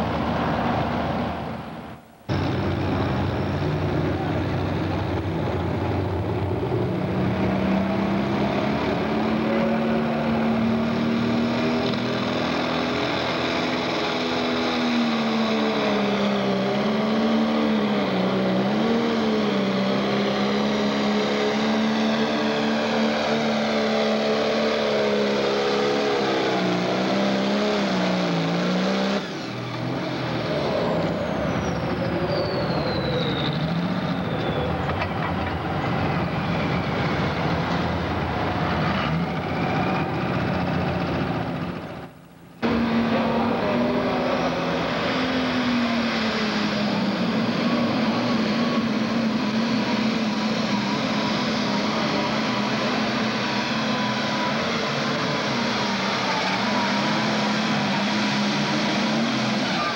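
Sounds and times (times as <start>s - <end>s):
diesel tractor engine at full throttle: 0.0s - 59.9s.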